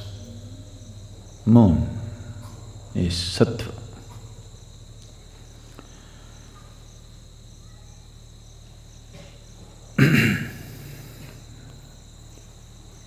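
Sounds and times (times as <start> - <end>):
crickets chirping: 0.0 - 13.0
low hum: 0.0 - 13.0.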